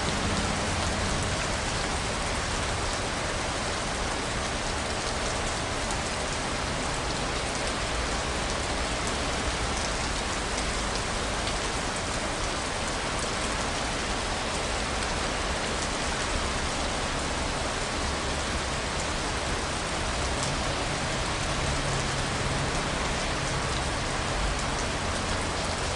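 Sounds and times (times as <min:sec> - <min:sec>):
steady rain on hard surface: 0:00.0 - 0:25.9.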